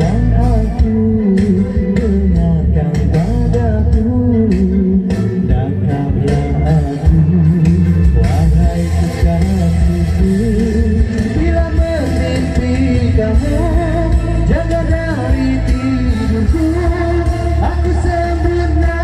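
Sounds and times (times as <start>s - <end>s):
person singing into microphone: 0.0s - 19.0s
pop backing track with heavy bass: 0.0s - 19.0s.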